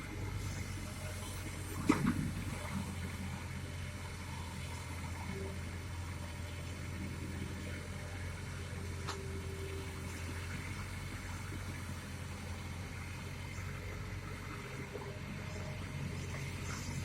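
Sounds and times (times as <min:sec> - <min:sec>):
excavator diesel engine humming: 0:00.0 - 0:17.0.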